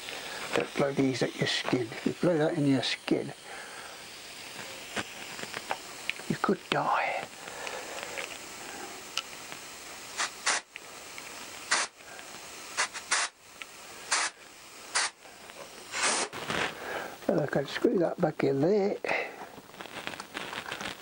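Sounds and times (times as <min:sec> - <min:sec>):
compressed air blasts: 0:00.0 - 0:17.2.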